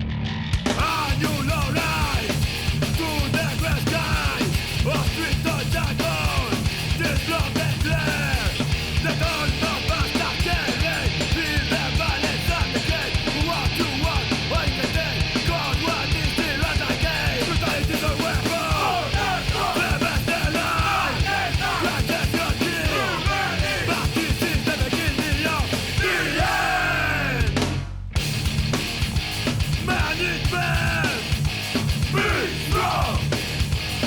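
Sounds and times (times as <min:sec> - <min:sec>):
punk rock music: 0:00.0 - 0:34.0
driving drum beat: 0:00.6 - 0:34.0
shouted vocals: 0:00.8 - 0:27.6, 0:29.8 - 0:31.4, 0:32.0 - 0:33.3.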